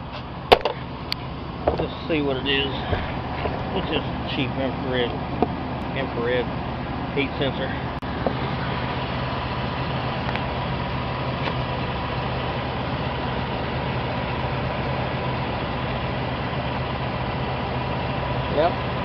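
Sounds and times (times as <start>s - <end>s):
radiator cooling fans running: 0.0s - 19.0s
truck engine idling: 0.0s - 19.0s.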